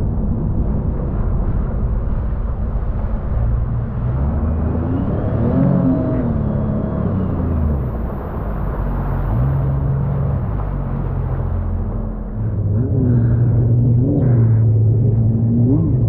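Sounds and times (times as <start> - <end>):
jet ski engine running: 0.0 - 16.0
wind buffeting microphone: 0.0 - 16.0.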